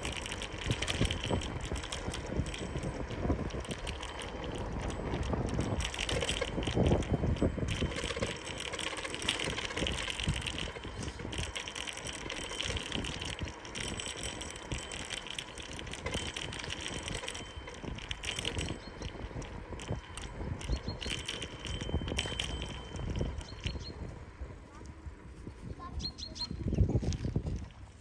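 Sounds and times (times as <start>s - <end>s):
bicycle tyres rolling on asphalt: 0.0s - 28.0s
bike rattling and clicking: 0.0s - 28.0s.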